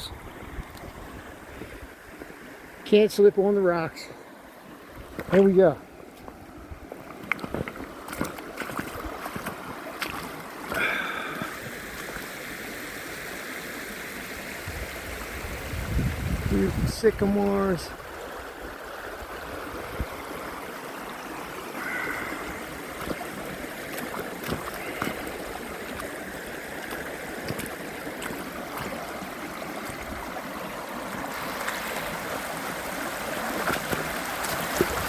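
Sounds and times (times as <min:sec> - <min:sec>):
creek water over rapids: 0:00.0 - 0:35.0.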